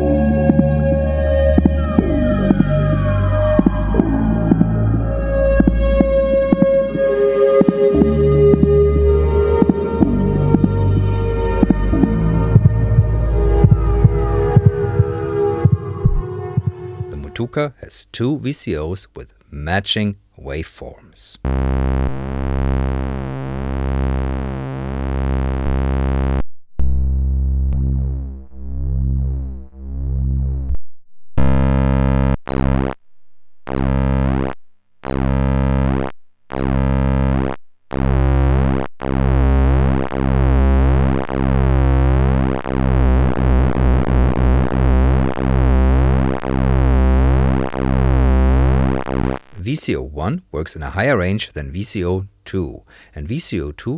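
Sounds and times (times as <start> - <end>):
buzzy synthesizer bass notes: 0.0 - 30.8, 31.4 - 53.9.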